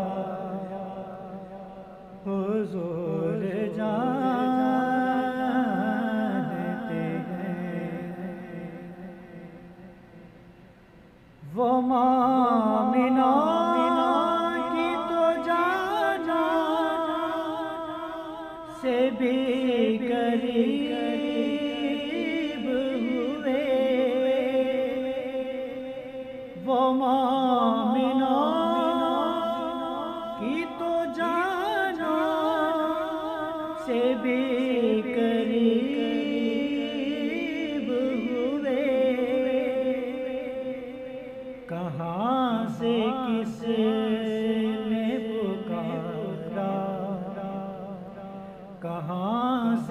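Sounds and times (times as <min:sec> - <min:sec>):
man singing unaccompanied: 0:00.0 - 0:10.3, 0:11.4 - 0:49.9.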